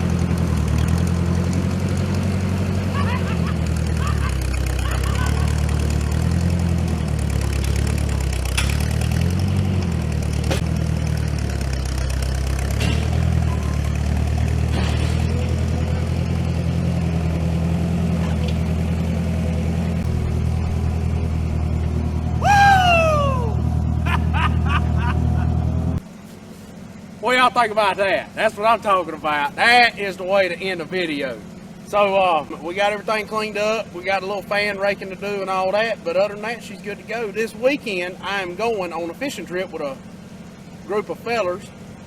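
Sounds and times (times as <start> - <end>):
loader engine running: 0.0 - 42.0.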